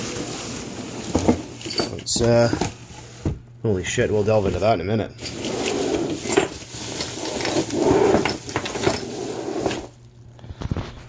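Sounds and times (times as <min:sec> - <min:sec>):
packing material rustling: 0:00.0 - 0:03.1, 0:03.9 - 0:10.0.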